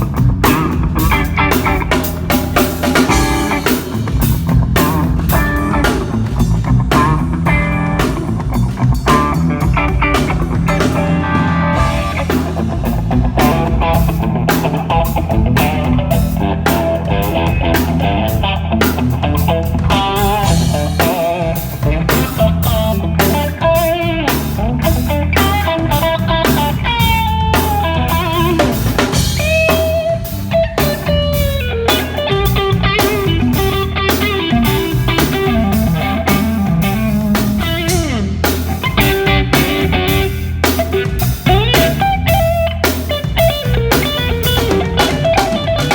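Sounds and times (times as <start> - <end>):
bass guitar: 0.0 - 45.9
drum kit steady beat: 0.0 - 45.9
lead guitar with bent notes: 0.0 - 45.9.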